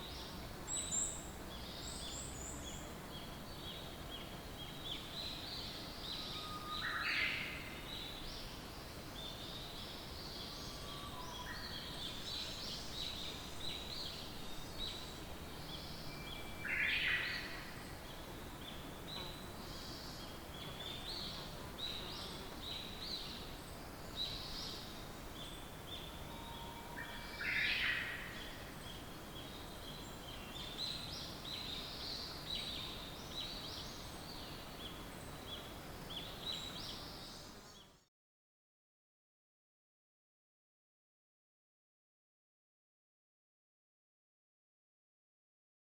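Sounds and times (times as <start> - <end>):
lower bird song with rising phrase: 0.0 - 38.1
songbirds chirping: 0.0 - 38.1.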